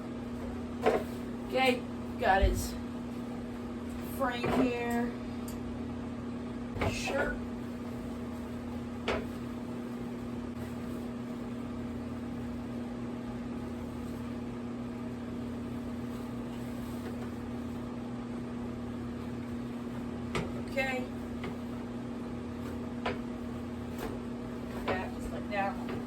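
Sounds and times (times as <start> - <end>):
electric fan humming: 0.0 - 26.0.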